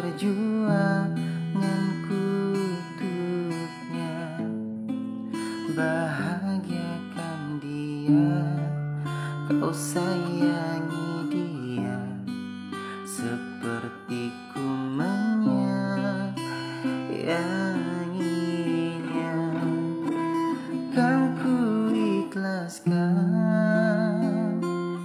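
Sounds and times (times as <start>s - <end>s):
man's wordless singing: 0.0s - 4.6s, 5.6s - 12.3s, 12.9s - 24.7s
acoustic guitar chords: 0.0s - 25.0s.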